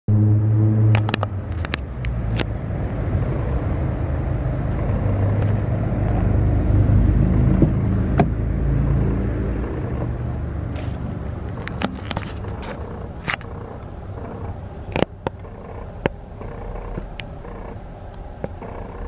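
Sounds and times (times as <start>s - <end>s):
truck engine idling: 2.6s - 19.0s.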